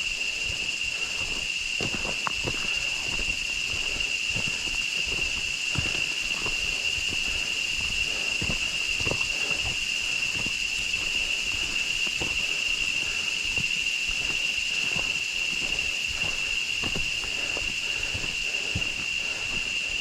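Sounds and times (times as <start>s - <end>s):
footsteps on trail: 0.0s - 20.0s
insect chorus: 0.0s - 20.0s.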